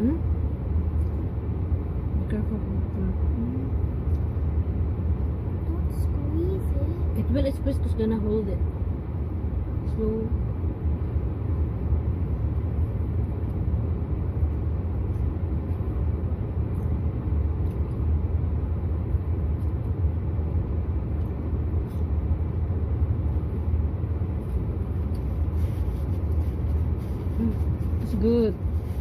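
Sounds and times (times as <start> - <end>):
car engine low rumble: 0.0 - 29.0.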